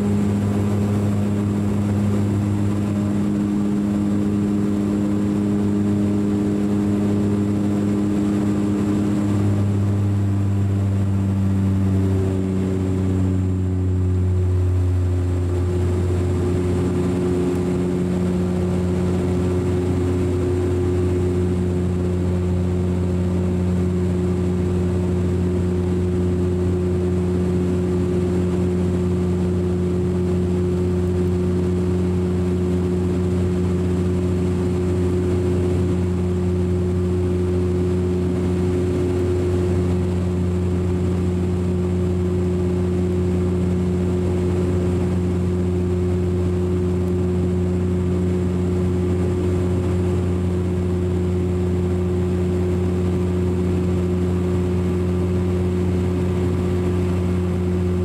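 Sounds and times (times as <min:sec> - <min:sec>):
turboprop cabin drone: 0:00.0 - 0:58.0.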